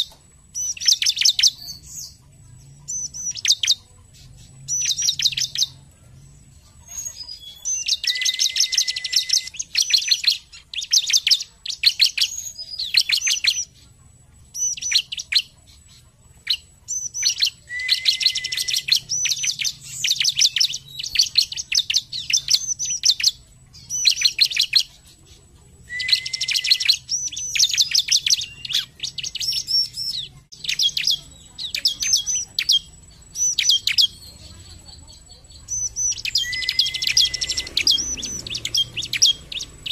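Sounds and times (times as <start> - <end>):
bird singing rapid chirping trills: 0.0 - 39.9.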